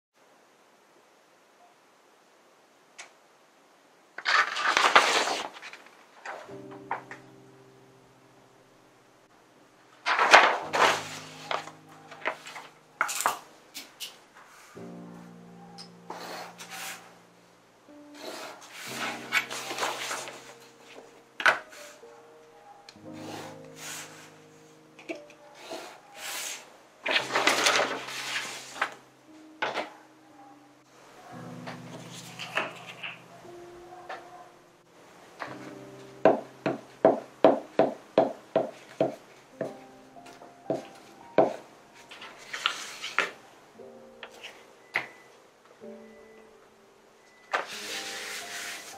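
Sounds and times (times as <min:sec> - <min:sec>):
soft background music: 0:06.4 - 0:13.8, 0:14.7 - 0:48.9.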